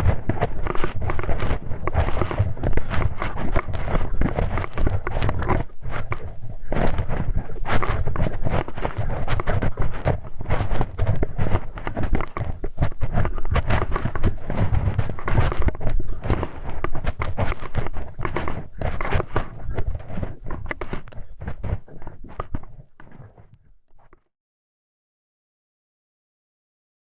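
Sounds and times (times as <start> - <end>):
hex key scraping dummy-ear microphone: 0.0 - 24.3.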